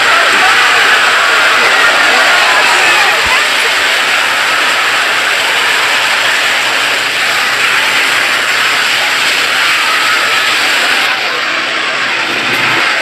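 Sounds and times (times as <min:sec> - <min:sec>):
stacked screams hissing roar: 0:00.0 - 0:13.0.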